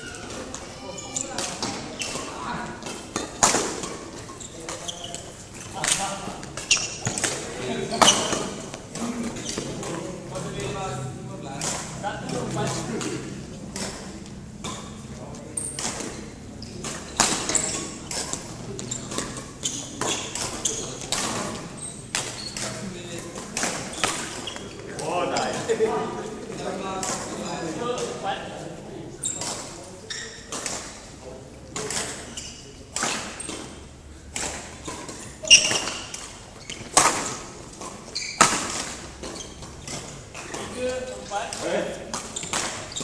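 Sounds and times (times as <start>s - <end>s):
shoes squeaking on floor: 0.0s - 28.5s, 29.1s - 31.1s, 31.8s - 43.0s
rackets hitting shuttlecocks: 0.2s - 10.8s, 11.5s - 25.8s, 32.9s - 43.0s.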